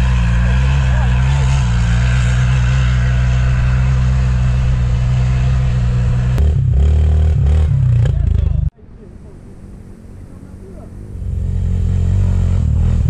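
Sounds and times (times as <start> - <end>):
atv engine running: 0.0 - 8.7, 9.6 - 13.0
drone propellers humming: 0.0 - 13.0.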